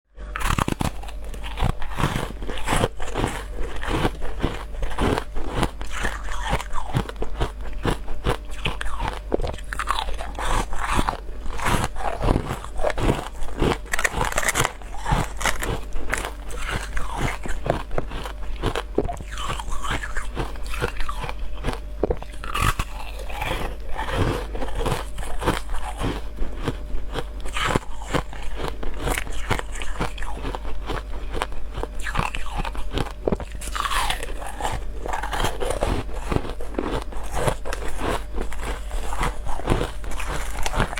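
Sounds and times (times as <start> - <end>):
person crunching ice cubes: 0.3 - 40.9.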